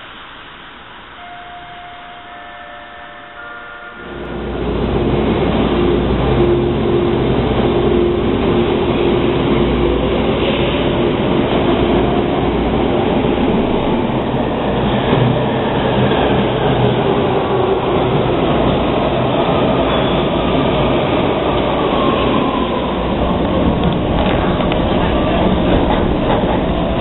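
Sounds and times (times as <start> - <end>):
train wheels rumbling on rail: 3.4 - 27.0.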